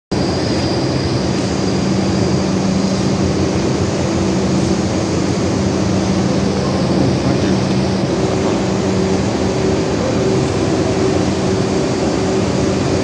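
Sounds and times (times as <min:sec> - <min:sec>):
subway train humming and rumbling: 0:00.1 - 0:13.0.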